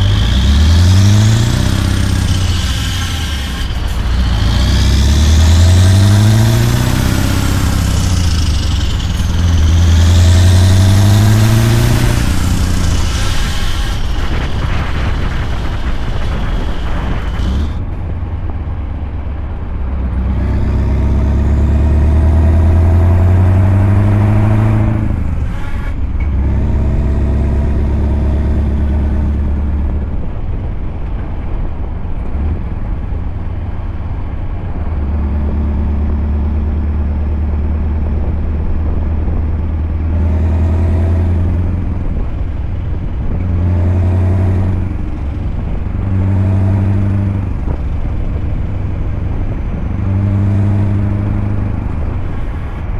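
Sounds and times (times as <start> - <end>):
diesel truck engine revving: 0.0 - 52.9.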